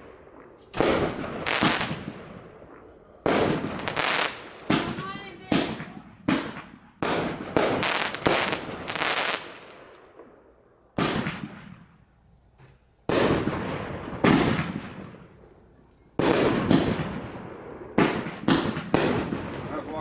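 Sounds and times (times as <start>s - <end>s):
fireworks bursting: 0.0s - 15.6s, 16.2s - 20.0s.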